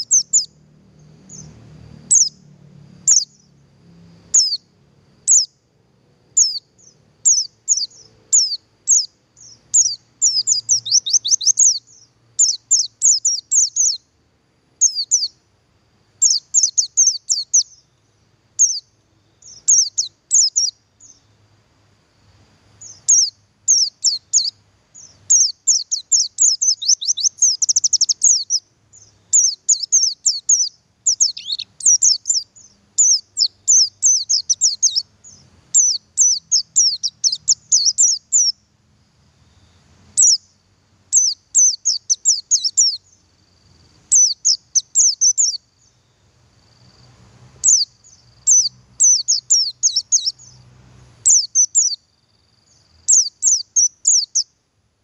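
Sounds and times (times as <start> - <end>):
bird high chirps: 0.0 - 3.6, 4.3 - 5.6, 6.3 - 14.1, 14.8 - 15.4, 16.1 - 21.4, 22.8 - 38.7, 39.6 - 54.6.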